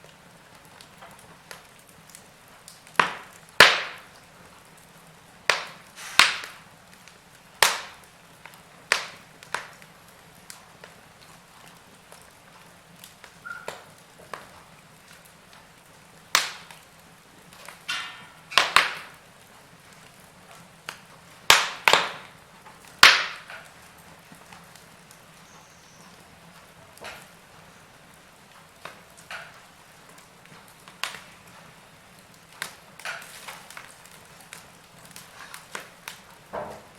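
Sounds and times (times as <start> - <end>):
faint steady hiss: 0.0 - 36.9
wood fire crackling: 0.0 - 36.9.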